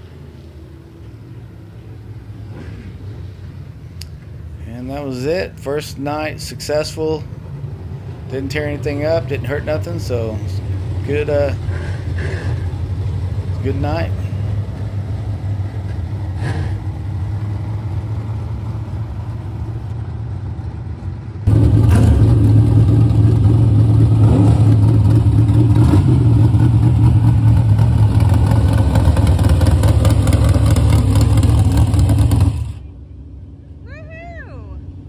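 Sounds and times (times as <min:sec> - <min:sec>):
engine idling close by: 0:00.0 - 0:33.9
race cars running laps: 0:00.0 - 0:35.0.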